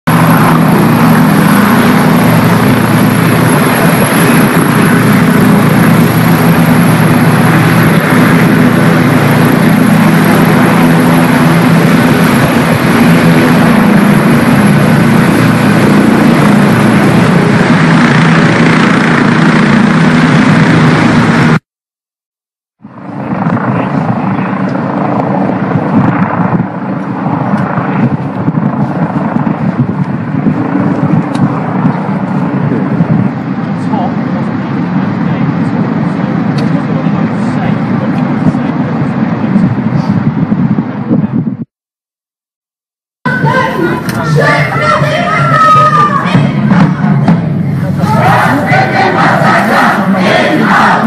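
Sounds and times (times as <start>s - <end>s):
helicopter hovering: 0.0s - 21.7s, 22.8s - 41.7s, 43.2s - 51.0s.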